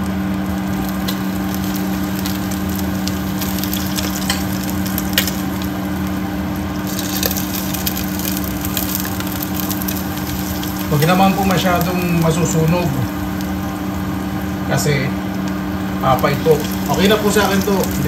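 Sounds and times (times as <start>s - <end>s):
hot oil pouring: 0.0s - 18.0s
pork skin sizzling and crackling: 0.0s - 18.0s
steady low hum: 0.0s - 18.0s.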